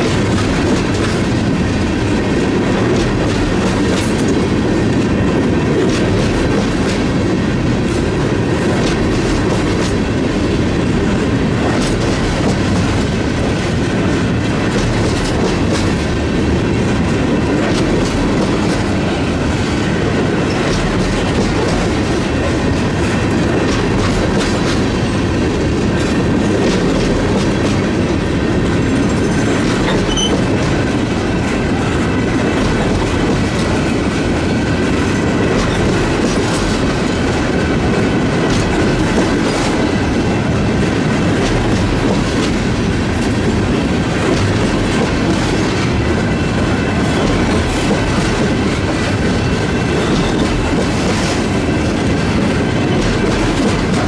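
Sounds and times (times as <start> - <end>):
train rumble: 0.0 - 54.0
wheels clacking over rail joints: 0.0 - 54.0.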